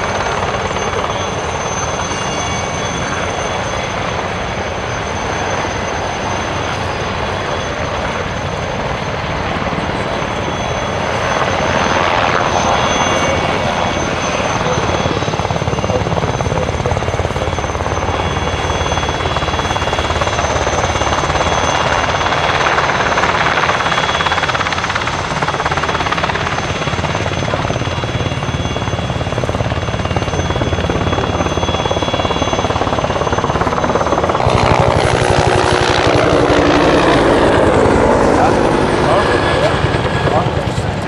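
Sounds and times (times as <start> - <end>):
helicopter rotor blade chop: 0.0 - 41.0
turbine engine whine: 0.0 - 41.0.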